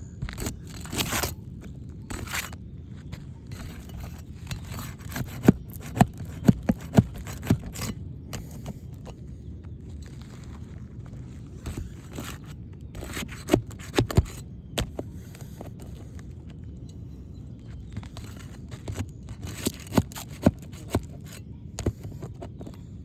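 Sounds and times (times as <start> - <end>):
shingles cracking and scraping: 0.0 - 16.6, 17.6 - 23.0.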